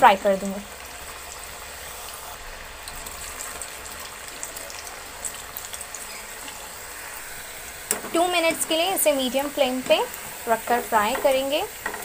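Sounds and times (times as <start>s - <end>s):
potatoes deep-frying in oil: 0.0s - 12.0s.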